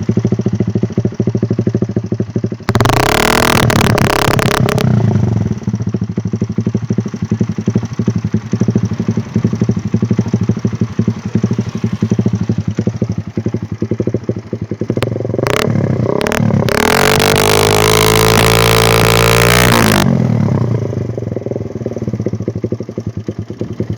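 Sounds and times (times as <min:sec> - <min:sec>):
motorcycle engine idling and revving: 0:00.0 - 0:23.9.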